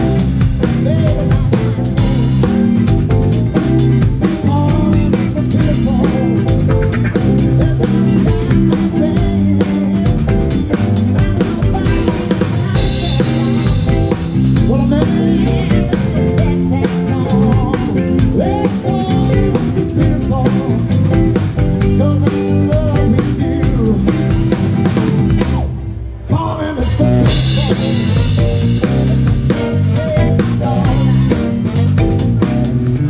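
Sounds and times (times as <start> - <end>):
bass drum: 0.0 - 25.9, 26.9 - 33.0
live band playing: 0.0 - 33.0.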